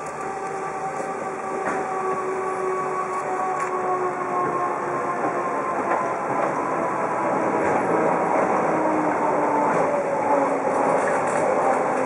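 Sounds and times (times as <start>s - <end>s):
rack railcar wheels rumbling: 0.0s - 12.0s.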